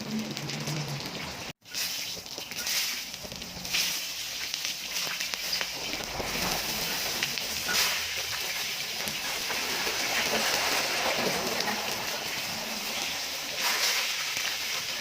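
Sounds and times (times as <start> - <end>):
ribs sizzling on a hot pan: 0.1 - 15.0.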